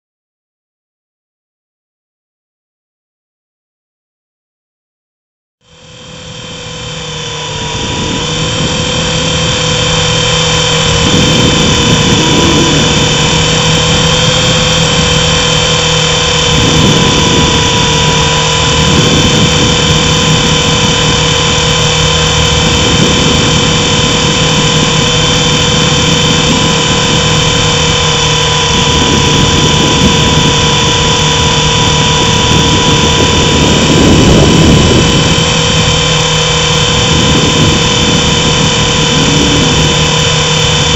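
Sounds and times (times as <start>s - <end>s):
low rotor drone: 5.6s - 40.9s
rc helicopter motor whine: 5.6s - 40.9s.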